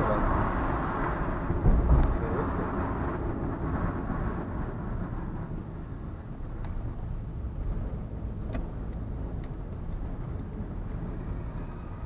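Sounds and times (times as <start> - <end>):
tyre noise on road: 0.0 - 12.0
vehicle engine rumble: 0.0 - 12.0.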